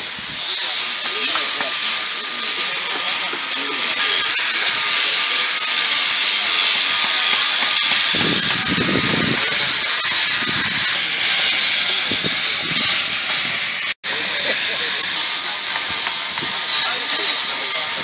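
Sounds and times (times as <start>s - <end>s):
angle grinders carving wood: 0.0s - 18.0s.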